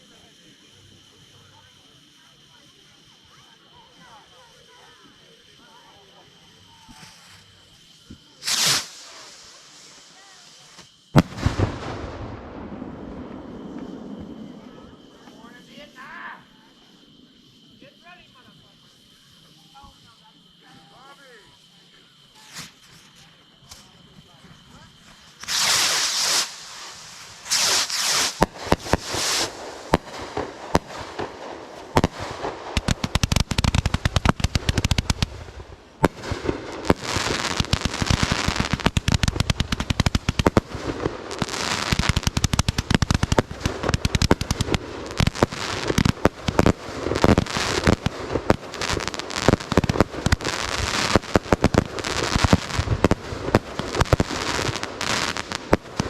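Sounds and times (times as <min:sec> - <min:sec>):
fireworks crackling and popping: 0:00.0 - 0:56.0
fireworks hissing bursts: 0:00.0 - 0:56.0.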